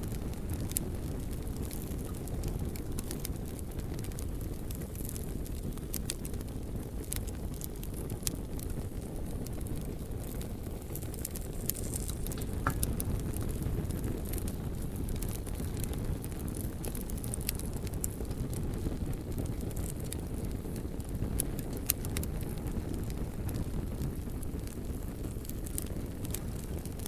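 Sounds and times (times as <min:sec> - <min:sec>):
burning wood crackling and popping: 0:00.0 - 0:27.0
fire flames rumbling: 0:00.0 - 0:27.0.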